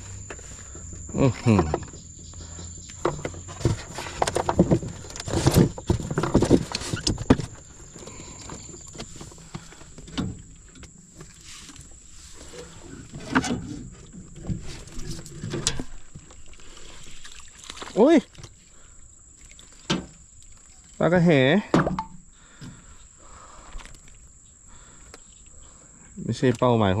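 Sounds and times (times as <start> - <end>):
knocks and clatter in a boat: 0.0 - 18.8, 19.5 - 20.9, 21.5 - 23.4
high insect whine: 0.0 - 27.0.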